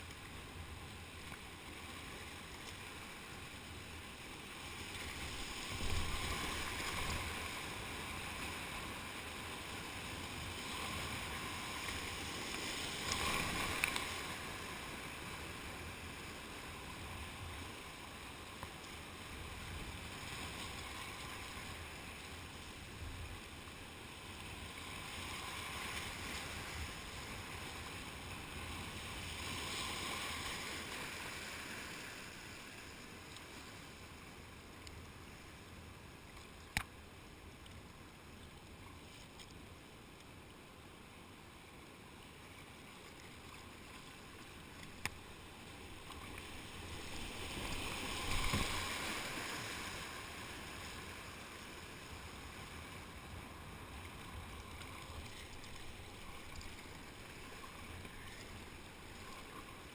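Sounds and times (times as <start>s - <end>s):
rushing whitewater: 0.0s - 35.9s, 40.4s - 59.9s.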